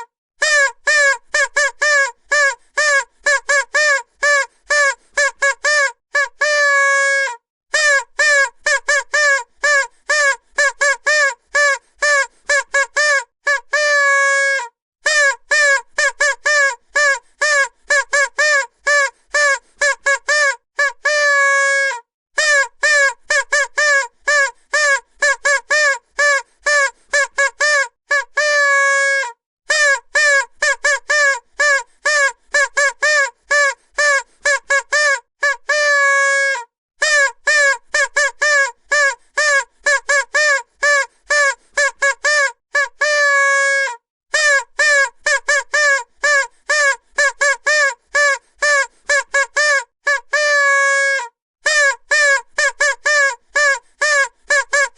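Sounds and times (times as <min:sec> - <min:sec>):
vuvuzela toots and blast: 0:00.0 - 0:54.9.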